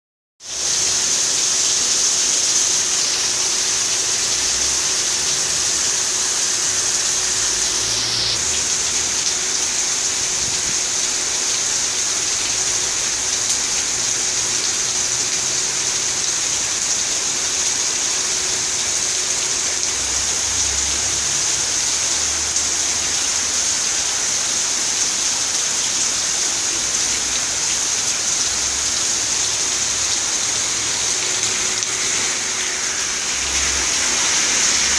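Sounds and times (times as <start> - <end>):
heavy rain pelting down: 0.4 - 34.9.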